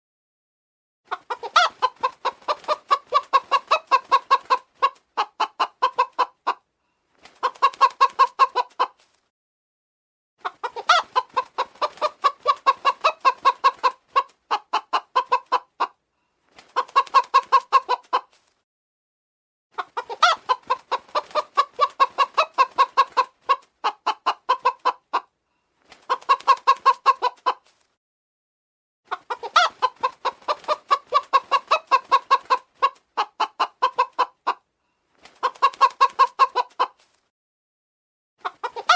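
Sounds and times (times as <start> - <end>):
chickens clucking rapidly: 1.1 - 9.2, 10.4 - 18.6, 19.7 - 27.9, 29.1 - 37.3, 38.4 - 38.9.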